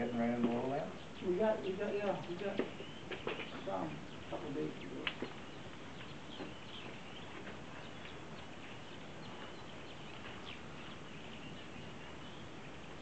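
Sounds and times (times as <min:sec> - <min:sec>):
birds chipping and twittering: 0:00.0 - 0:13.0
steady background hiss: 0:00.0 - 0:13.0.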